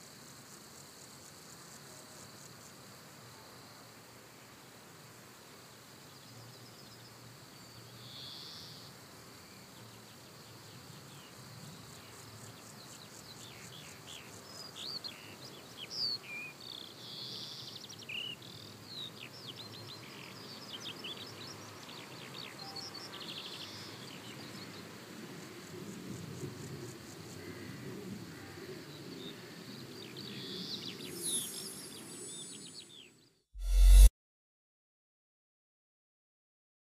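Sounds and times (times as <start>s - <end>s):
insect hiss: 0.0s - 32.9s.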